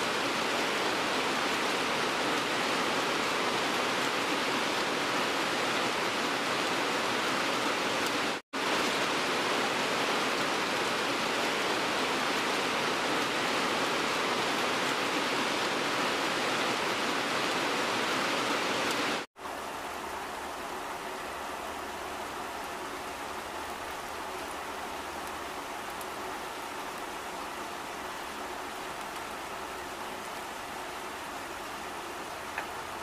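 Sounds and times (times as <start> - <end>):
heavy rain falling on trees: 0.0 - 33.0.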